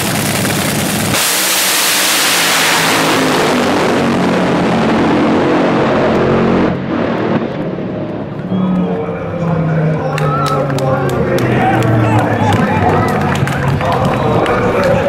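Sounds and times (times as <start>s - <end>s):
dragster engines roaring: 0.0s - 15.0s.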